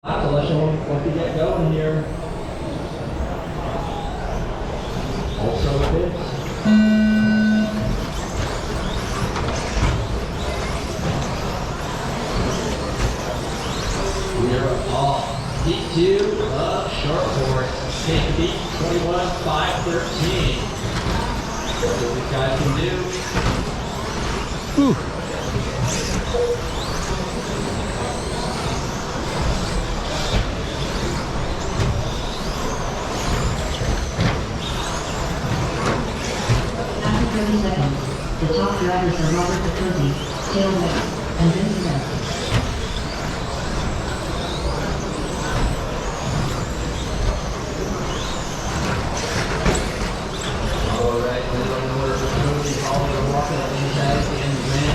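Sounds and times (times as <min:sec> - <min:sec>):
rc truck motors whining: 0:02.0 - 0:54.9.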